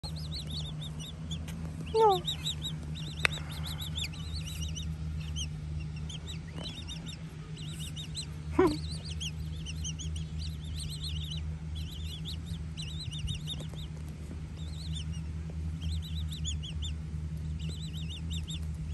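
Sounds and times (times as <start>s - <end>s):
chicks begging peeps: 0.0s - 18.9s
lower falling bird calls: 0.0s - 18.9s
steady low hum: 0.0s - 18.9s.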